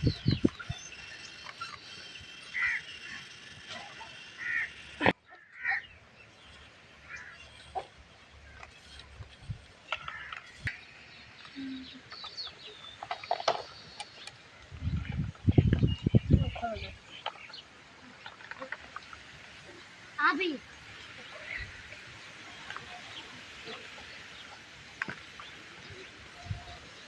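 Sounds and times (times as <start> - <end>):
background noise: 0.0 - 27.0.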